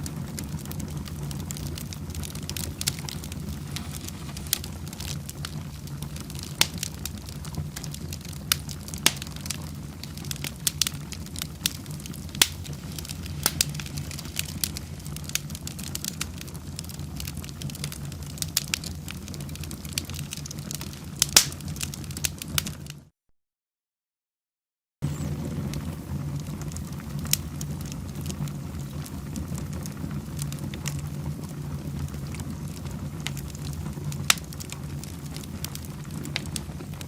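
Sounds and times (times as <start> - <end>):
fireplace fire crackling: 0.0 - 23.1, 25.0 - 37.0.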